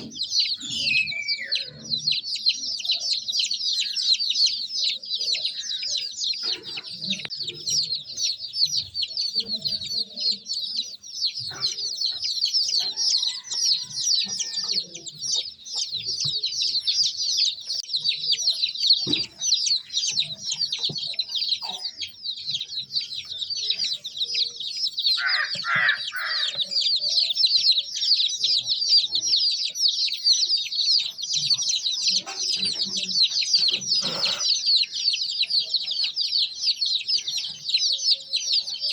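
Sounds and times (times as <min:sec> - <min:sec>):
baby chicks cheeping: 0:00.0 - 0:38.9.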